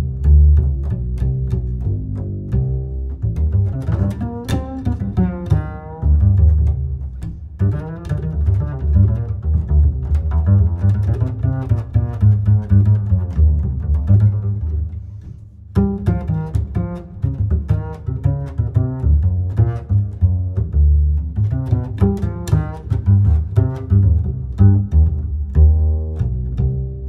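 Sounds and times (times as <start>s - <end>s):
low strings music: 0.0s - 27.0s
plucked and bowed bass line: 0.0s - 27.0s.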